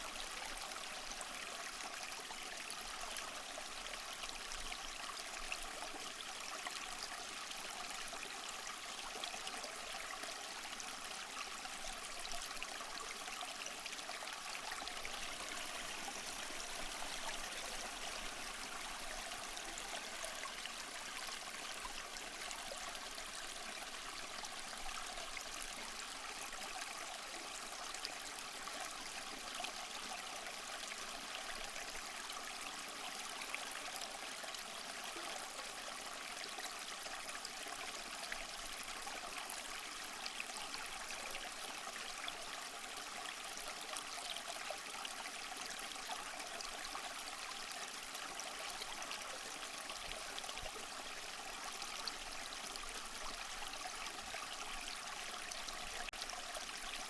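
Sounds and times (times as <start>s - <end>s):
small waterfall splashing: 8.5s - 57.0s.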